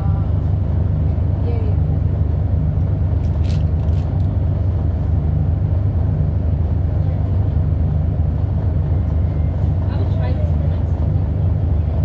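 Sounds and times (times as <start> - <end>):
bus diesel engine drone: 0.0 - 12.0.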